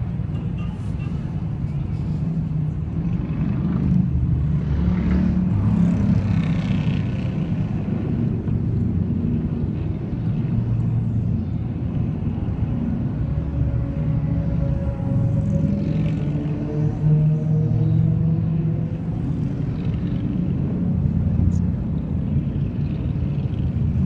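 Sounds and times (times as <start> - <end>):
motorcycle engines rumbling past: 0.0 - 24.0.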